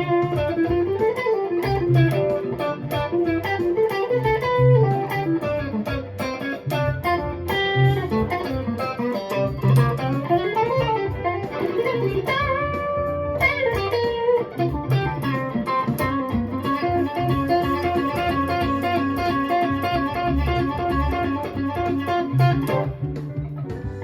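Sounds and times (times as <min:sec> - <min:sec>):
electric guitar chord melody: 0:00.0 - 0:24.0.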